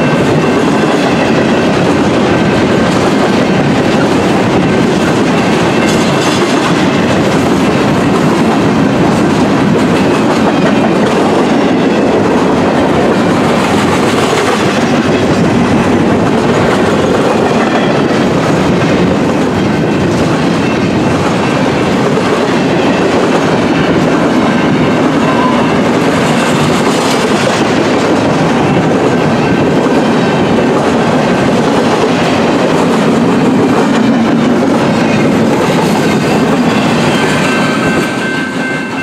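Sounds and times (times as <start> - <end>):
steel wheels rolling on rail: 0.0 - 39.0.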